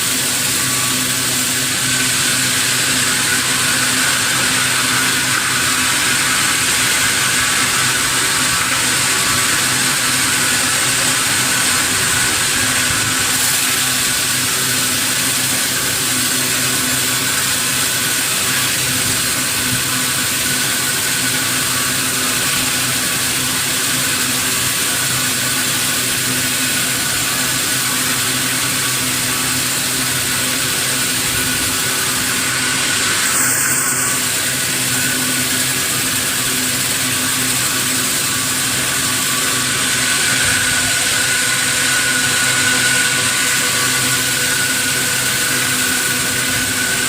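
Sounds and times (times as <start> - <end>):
sawmill saw humming: 0.0 - 47.0.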